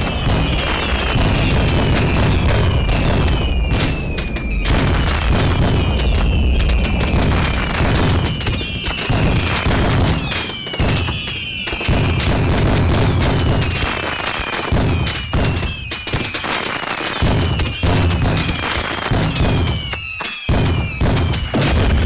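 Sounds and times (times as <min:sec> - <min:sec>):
falling firework whistles: 0:00.0 - 0:22.0
firework booms and cracks: 0:00.0 - 0:22.0.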